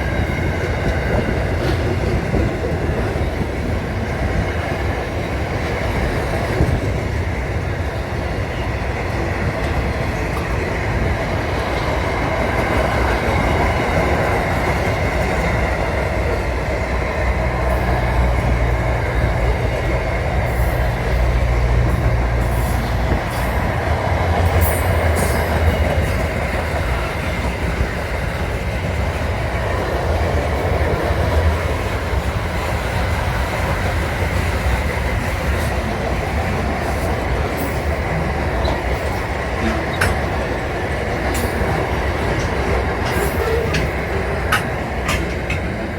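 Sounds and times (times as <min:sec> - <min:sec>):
train rumbling on track: 0:00.0 - 0:45.9
wheels clicking over rail joints: 0:09.1 - 0:45.9.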